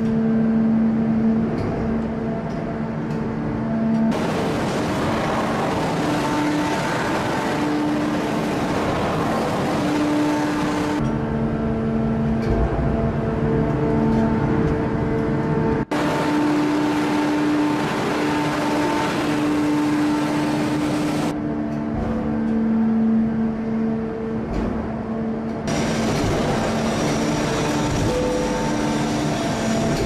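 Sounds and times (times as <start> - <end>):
forging press hum and rumble: 0.0 - 30.0.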